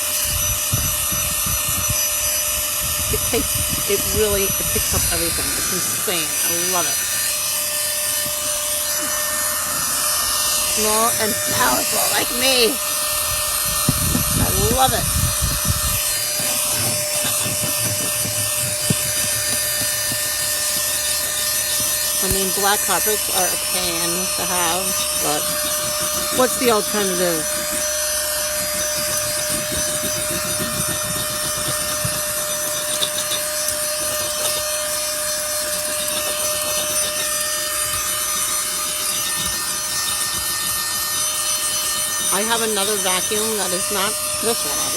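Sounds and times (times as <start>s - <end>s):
handheld vacuum running: 0.0s - 44.9s
nozzle scraping over carpet: 0.4s - 44.9s.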